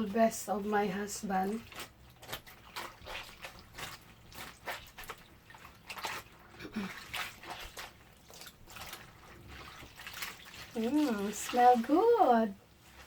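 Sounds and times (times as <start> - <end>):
clothes splashing in water: 0.0 - 13.0.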